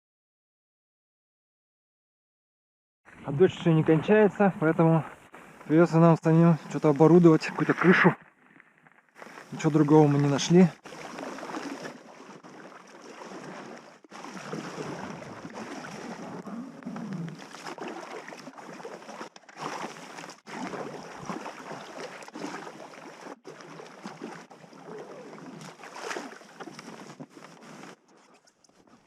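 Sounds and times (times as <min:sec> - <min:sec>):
water rushing and splashing: 0:03.3 - 0:08.2, 0:09.2 - 0:28.0.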